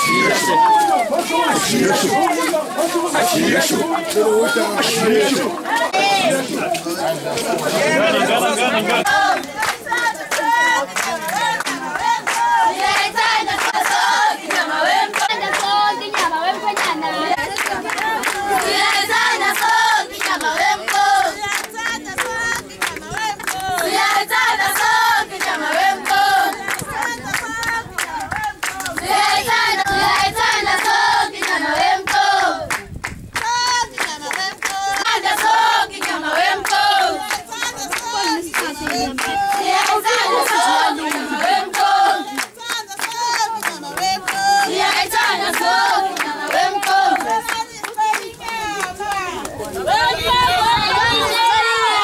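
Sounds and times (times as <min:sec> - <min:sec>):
rhythmic hand clapping: 0:00.0 - 0:52.0
women and girls singing: 0:00.0 - 0:52.0.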